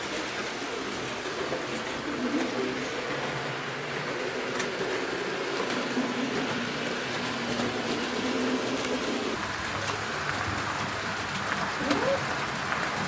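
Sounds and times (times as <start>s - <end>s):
locomotive motors humming: 0.0s - 13.0s
model train wheels rumbling on rails: 0.0s - 13.0s.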